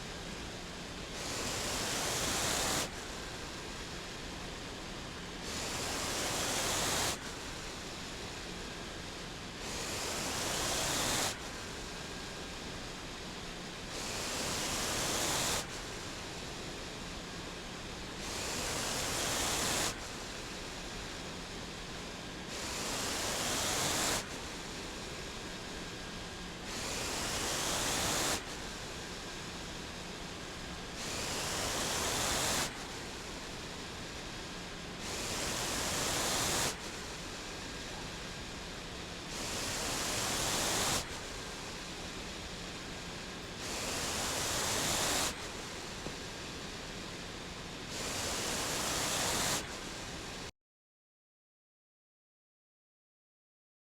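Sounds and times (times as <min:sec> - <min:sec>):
ventilator hiss of air: 0:00.0 - 0:50.5.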